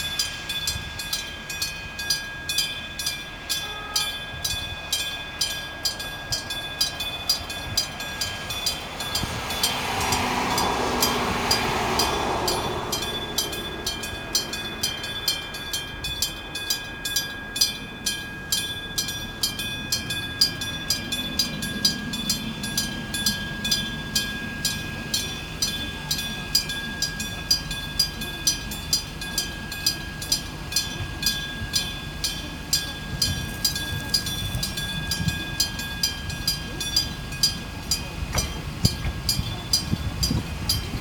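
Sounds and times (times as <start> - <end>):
electric train passing: 0.0 - 41.0
level crossing bell ringing: 0.0 - 41.0.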